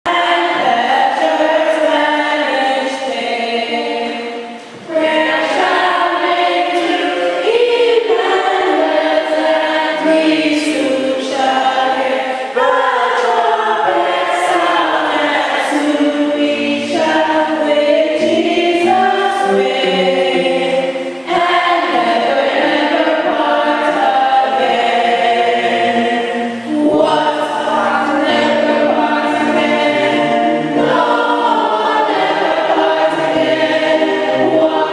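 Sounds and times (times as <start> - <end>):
choir singing: 0.1 - 34.9.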